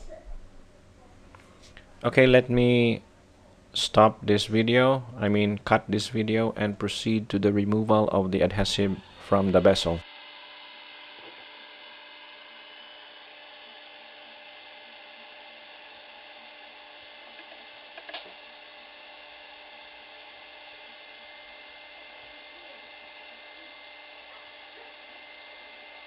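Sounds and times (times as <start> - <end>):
heat gun fan whine and hiss: 0.0 - 26.0.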